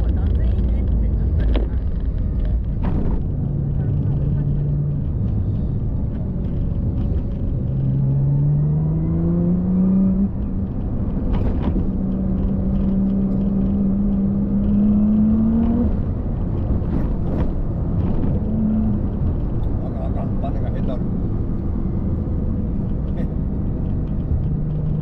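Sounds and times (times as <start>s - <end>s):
car engine accelerating: 0.0s - 25.0s
road and wind noise: 0.0s - 25.0s.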